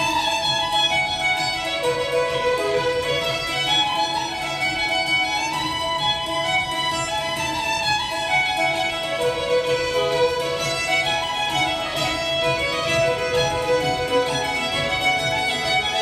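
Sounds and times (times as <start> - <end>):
fiddle dance tune: 0.0 - 16.0
steady beat: 0.0 - 16.0.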